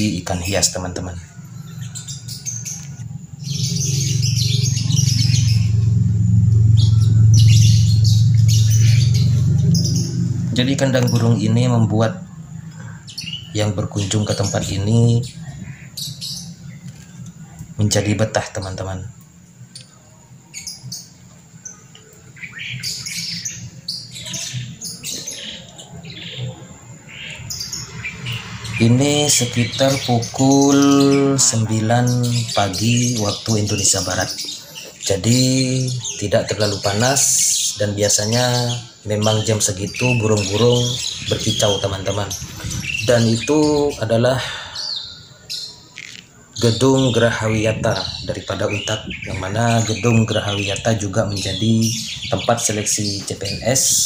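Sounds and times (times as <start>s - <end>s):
birds chirping: 0.0s - 54.0s
steady low hum: 0.0s - 54.0s.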